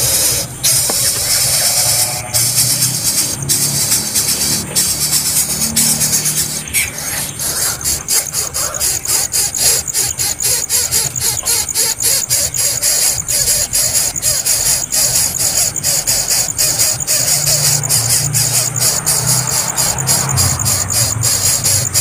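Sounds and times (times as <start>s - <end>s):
high rhythmic ticking: 0.0s - 22.0s
nestling birds begging calls: 0.0s - 22.0s.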